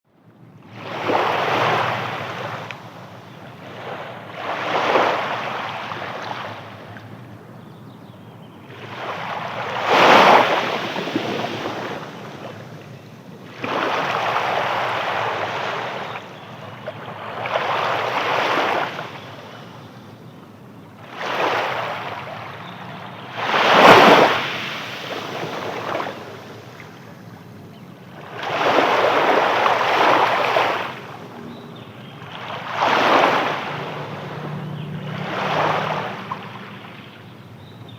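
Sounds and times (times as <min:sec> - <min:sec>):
sea waves breaking: 0:00.6 - 0:07.6, 0:08.5 - 0:37.9.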